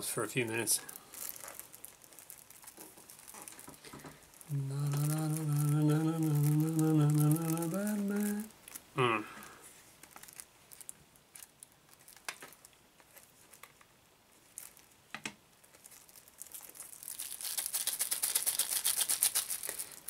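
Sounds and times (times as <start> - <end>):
plastic wrap crinkling: 0.0 - 20.0.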